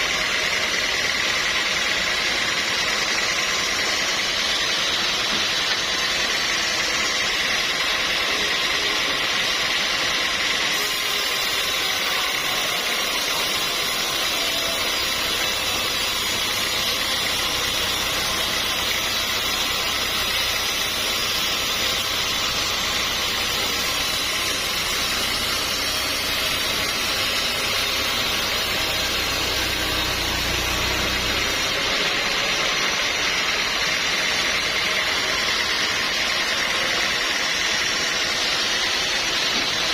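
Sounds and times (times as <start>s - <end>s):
sawmill machinery high tone and hiss: 0.0s - 39.9s.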